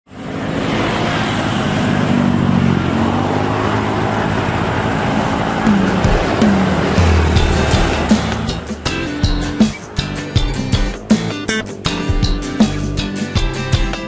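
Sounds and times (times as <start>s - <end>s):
traffic passing: 0.1s - 14.0s.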